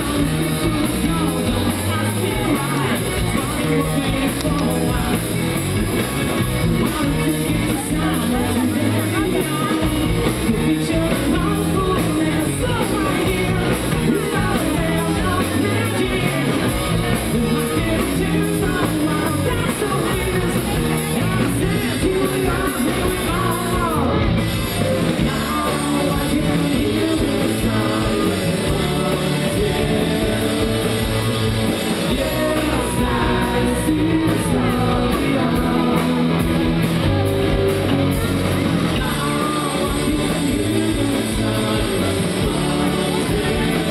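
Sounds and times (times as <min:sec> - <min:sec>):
person singing: 0:00.0 - 0:43.9
rock band playing live: 0:00.0 - 0:43.9.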